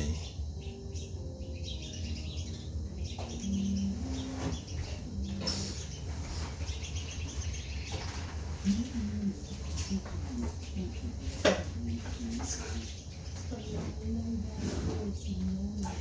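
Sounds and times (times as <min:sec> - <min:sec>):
birds calling: 0:00.0 - 0:14.2.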